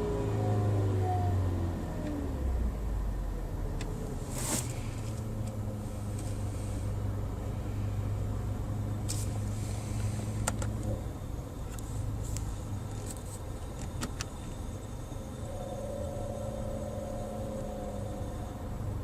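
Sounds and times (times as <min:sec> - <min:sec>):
low hum with held tone: 0:00.0 - 0:19.0.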